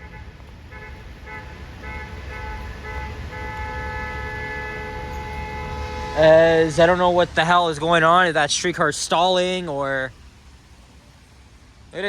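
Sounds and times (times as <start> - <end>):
low traffic rumble: 0.0 - 12.0
streetcar electrical whine: 0.0 - 12.0.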